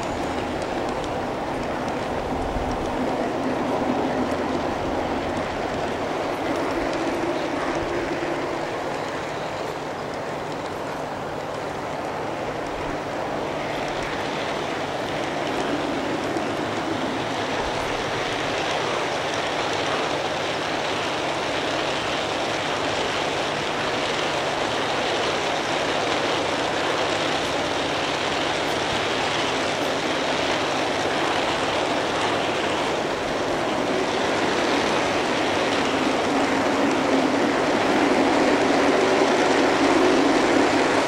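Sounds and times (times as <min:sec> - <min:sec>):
model train wheels rushing: 0:00.0 - 0:41.0.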